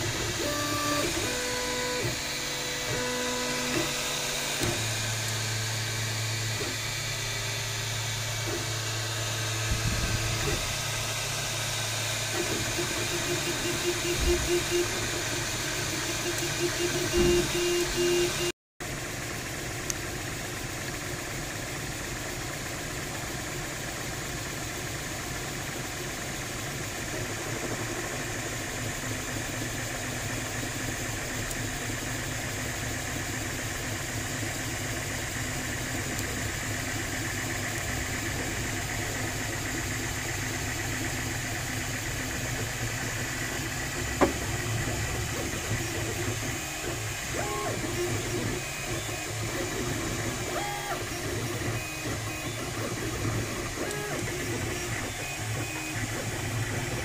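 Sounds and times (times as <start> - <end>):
printer fan and motors humming: 0.0 - 57.0.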